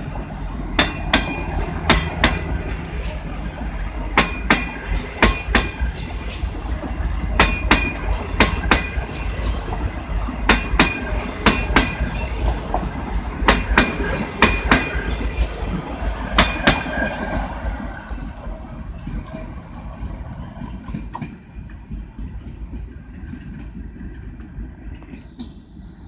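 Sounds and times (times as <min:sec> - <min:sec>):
train wheels clacking over rail joints: 0:00.0 - 0:25.8
train rumble: 0:00.0 - 0:26.0.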